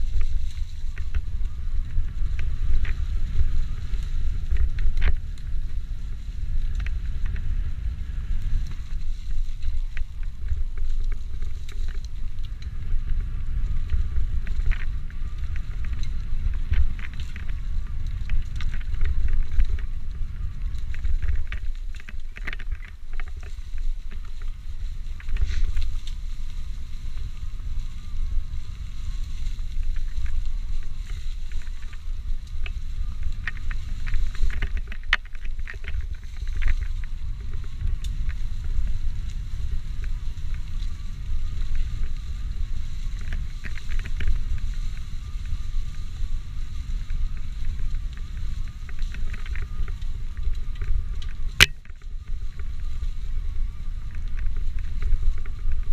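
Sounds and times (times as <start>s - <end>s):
bike clicks and rattles: 0.0s - 55.9s
rumble of bike tyres: 0.0s - 55.9s
wind on microphone: 0.0s - 55.9s.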